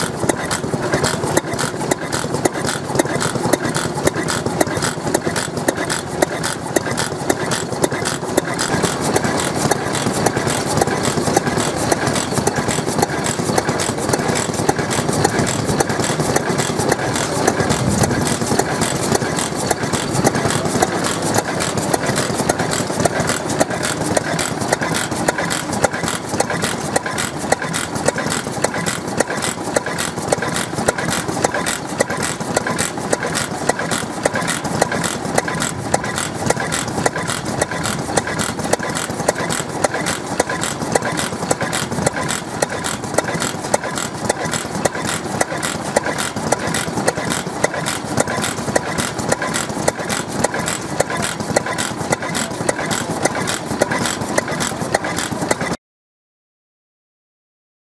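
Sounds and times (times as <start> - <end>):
stationary oil engine running: 0.0 - 55.8.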